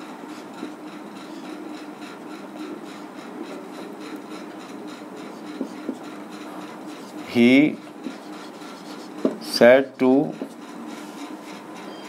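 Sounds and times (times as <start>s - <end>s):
marker writing on whiteboard: 0.3s - 12.0s.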